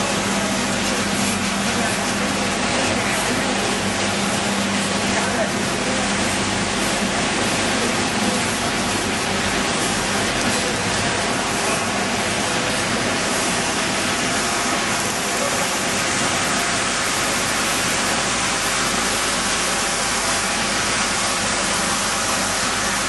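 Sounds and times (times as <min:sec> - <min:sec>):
machinery rushing noise: 0:00.0 - 0:23.0.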